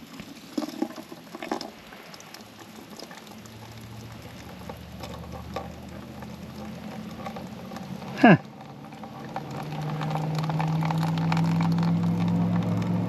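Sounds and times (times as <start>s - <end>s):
oil pattering into drain pan: 0.0s - 13.0s
small splashes: 0.0s - 13.0s
low steady hum: 1.6s - 13.0s.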